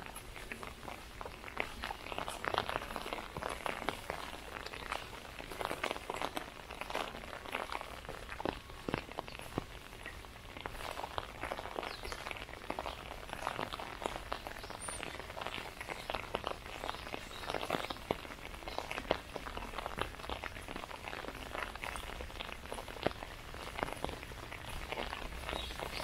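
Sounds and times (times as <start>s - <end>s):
footsteps on a path: 0.0s - 26.0s
rain tapping on umbrella: 0.0s - 26.0s.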